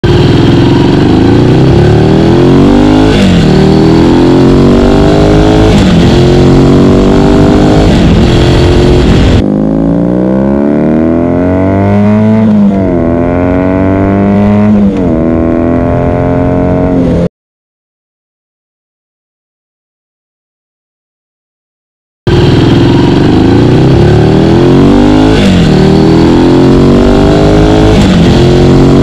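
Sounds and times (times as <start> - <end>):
motorcycle accelerating and upshifting: 0.0 - 17.3, 22.3 - 29.0.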